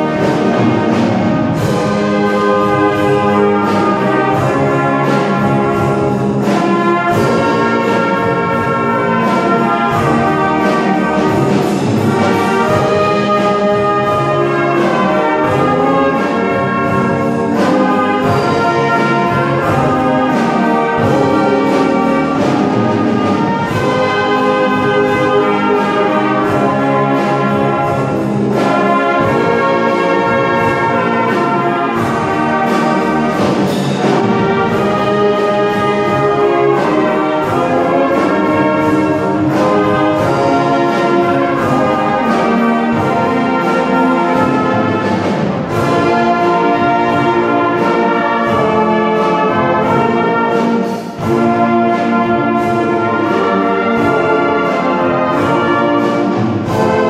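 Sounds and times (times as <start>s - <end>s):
wind band playing: 0.0s - 57.0s.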